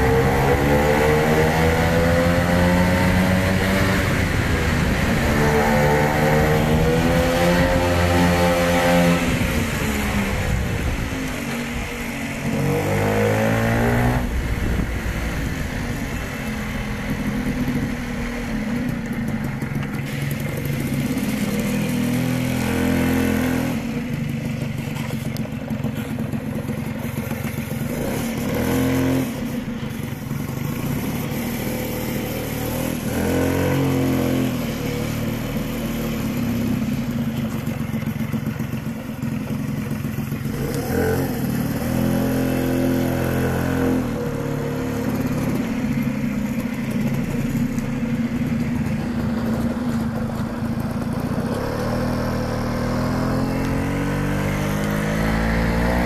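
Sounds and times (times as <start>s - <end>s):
two-stroke moped engine running: 0.0s - 56.0s.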